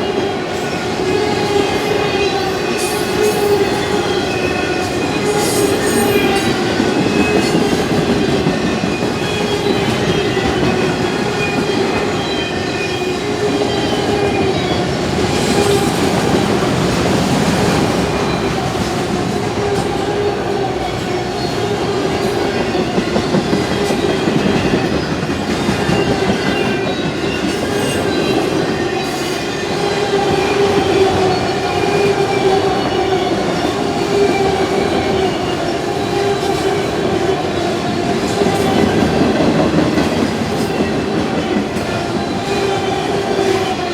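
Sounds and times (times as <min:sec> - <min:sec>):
train wheels clickety-clack: 0:00.0 - 0:43.9.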